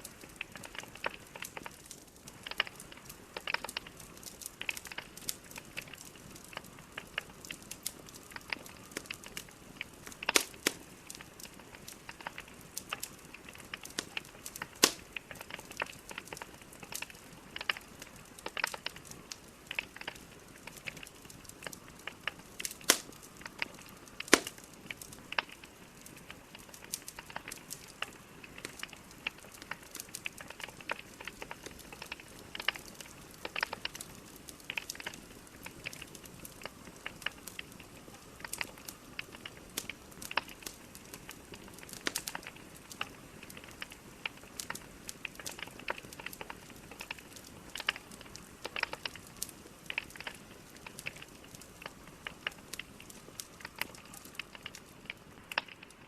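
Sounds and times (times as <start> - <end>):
burning logs popping and snapping: 0.0 - 56.0
wood fire crackling: 0.0 - 56.0.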